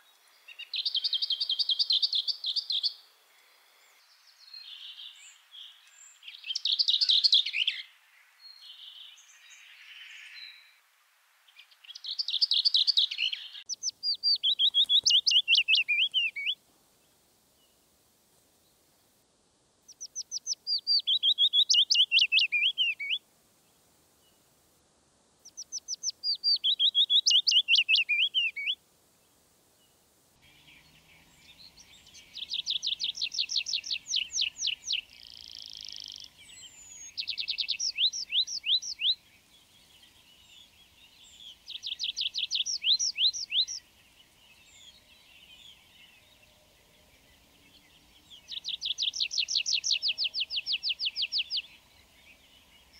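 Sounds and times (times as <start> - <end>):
willow warbler singing: 0.0 - 10.6, 11.5 - 18.0, 19.9 - 24.5, 25.4 - 52.9
tree pipit singing: 0.0 - 10.7, 11.6 - 16.6, 19.9 - 23.2, 25.4 - 28.8, 30.4 - 52.9.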